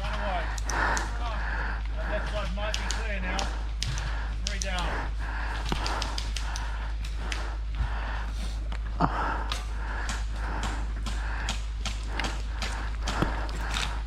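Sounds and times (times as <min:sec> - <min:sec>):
person breathing hard: 0:00.0 - 0:14.0
gear clicking and knocking: 0:00.1 - 0:07.9, 0:09.4 - 0:14.0.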